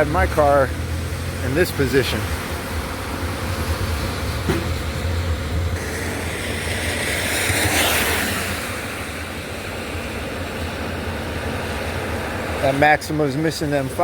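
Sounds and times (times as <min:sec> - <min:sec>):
low engine hum: 0:00.0 - 0:14.0
tyre hiss on wet road: 0:02.1 - 0:14.0.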